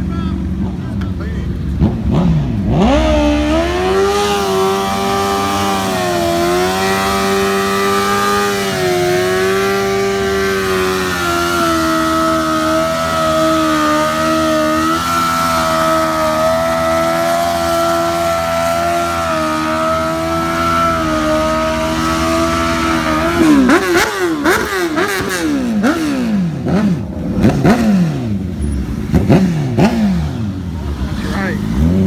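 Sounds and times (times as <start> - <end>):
car engine revving hard: 1.8 - 32.0.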